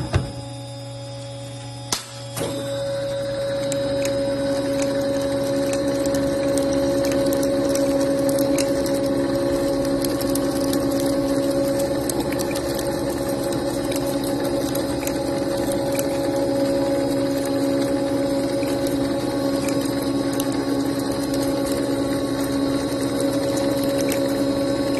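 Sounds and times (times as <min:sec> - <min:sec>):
machine spindle motor hum: 0:00.0 - 0:24.9.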